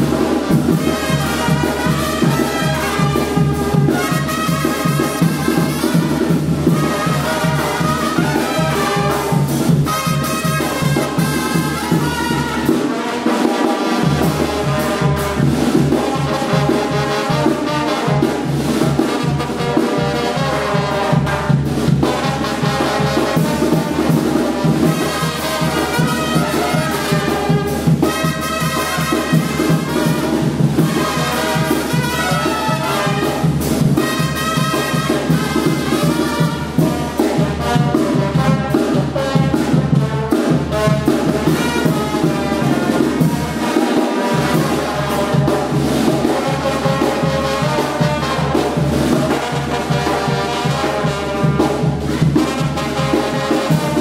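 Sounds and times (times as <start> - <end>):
brass dance music: 0.0 - 54.0.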